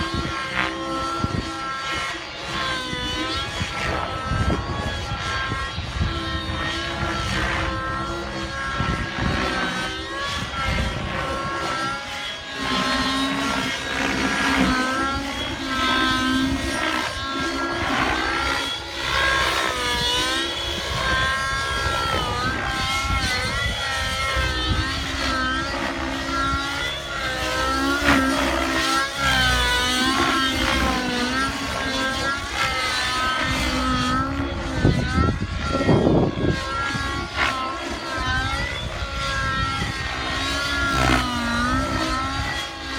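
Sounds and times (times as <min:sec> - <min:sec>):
rc helicopter engine and rotor whine: 0:00.0 - 0:42.9.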